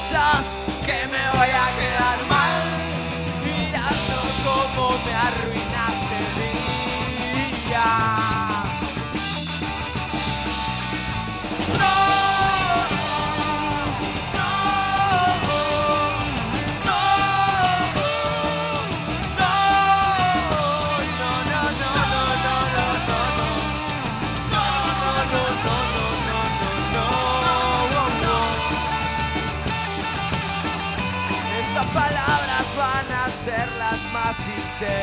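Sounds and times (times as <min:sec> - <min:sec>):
punk rock band playing live: 0:00.0 - 0:35.0.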